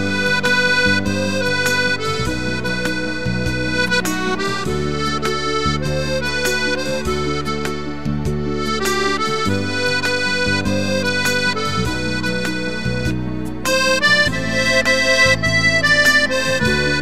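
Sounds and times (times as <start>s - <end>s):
piano accordion playing a tune: 0.0s - 17.0s.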